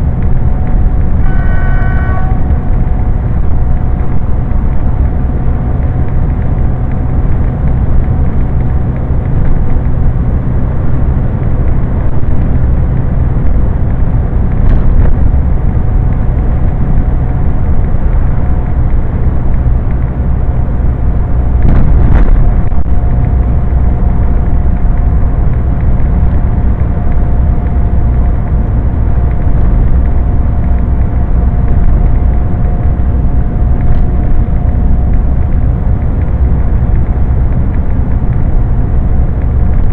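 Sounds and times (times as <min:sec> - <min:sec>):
thin steady whine: 0:00.0 - 0:39.9
truck engine and road drone: 0:00.0 - 0:39.9.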